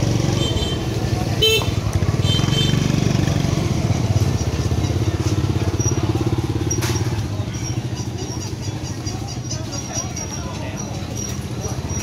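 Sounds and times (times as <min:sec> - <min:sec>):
motorbike engine pulsing: 0:00.0 - 0:12.0.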